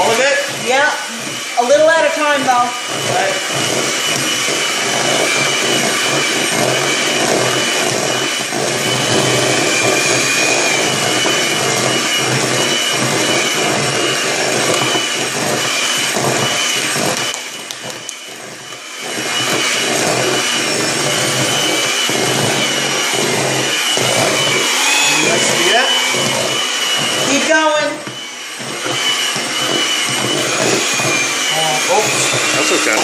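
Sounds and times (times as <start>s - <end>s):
electric mixer whipping frosting: 0.0s - 33.0s.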